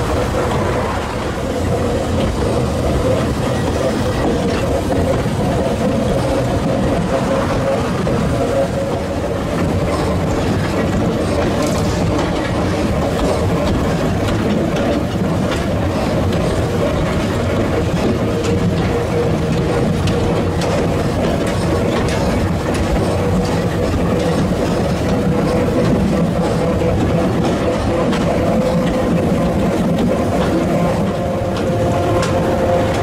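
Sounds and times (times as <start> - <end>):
steady whine: 0.0 - 33.0
train wheels rumbling and clicking: 0.0 - 33.0.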